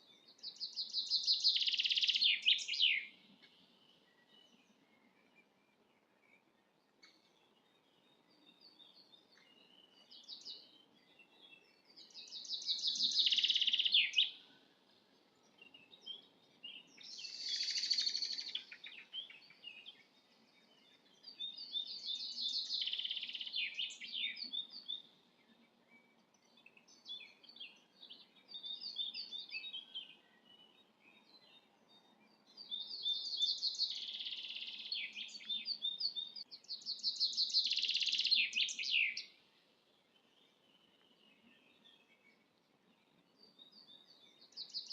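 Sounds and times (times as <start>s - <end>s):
soft bird chirps: 0.0s - 44.9s.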